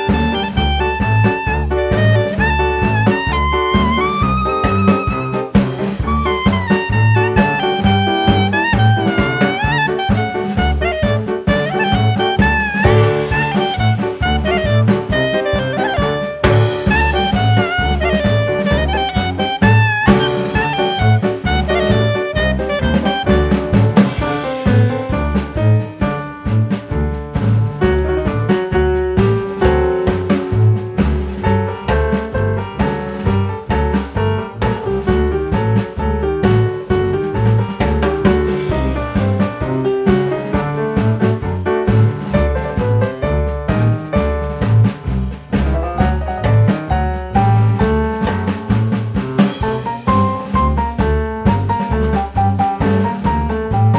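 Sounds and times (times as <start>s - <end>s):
jazzy instrumental music: 0.0s - 53.9s
piano tune with bass and drums: 0.0s - 53.9s.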